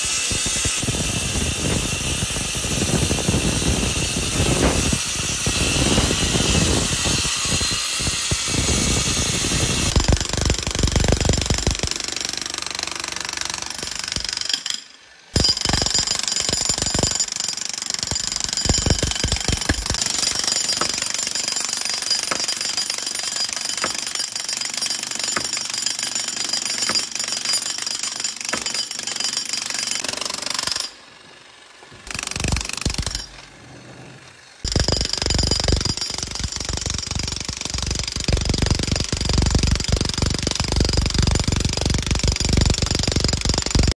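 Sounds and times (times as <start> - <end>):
jackhammer pounding concrete: 0.0 - 33.6, 34.6 - 43.9
concrete saw grinding: 0.0 - 43.9.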